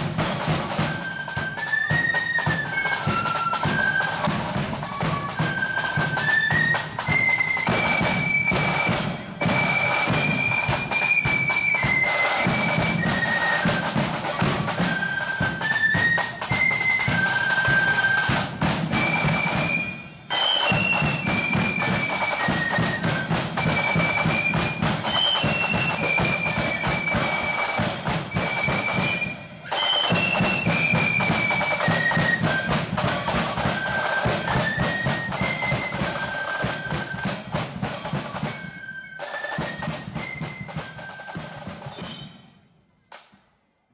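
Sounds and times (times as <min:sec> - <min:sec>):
flute melody: 0:00.0 - 0:42.5
snare and bass drums: 0:00.0 - 0:43.4.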